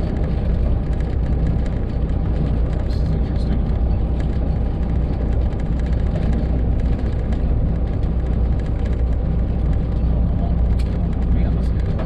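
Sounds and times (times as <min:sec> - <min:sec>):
diesel truck engine rumble: 0:00.0 - 0:12.0
road noise: 0:00.0 - 0:12.0.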